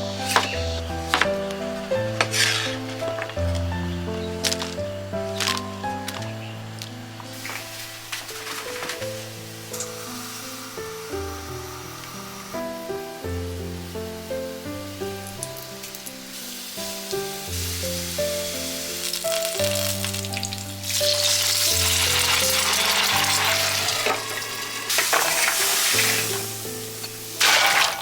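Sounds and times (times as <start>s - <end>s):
background music: 0.0s - 28.0s
food sizzling in hot oil: 0.0s - 28.0s.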